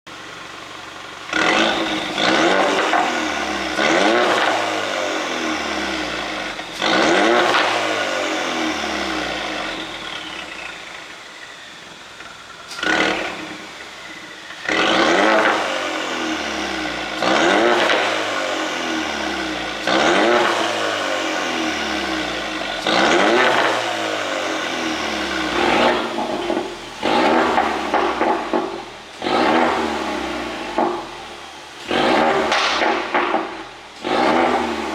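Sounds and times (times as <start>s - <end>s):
turbocharged engine revving: 0.1s - 34.9s
exhaust pops: 1.2s - 11.3s, 11.9s - 34.9s.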